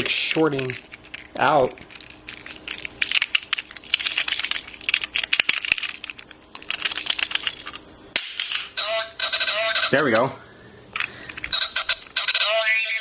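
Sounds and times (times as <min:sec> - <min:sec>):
toy speaker crackling: 0:00.0 - 0:07.8, 0:08.6 - 0:10.0, 0:11.0 - 0:13.0.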